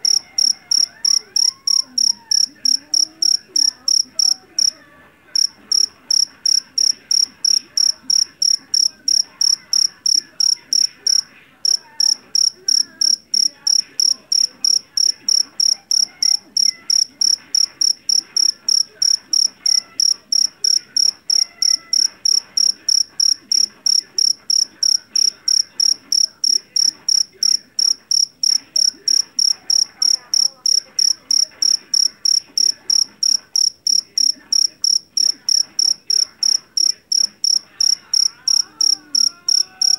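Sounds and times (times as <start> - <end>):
cricket chirping: 0.0 - 4.8, 5.4 - 39.9.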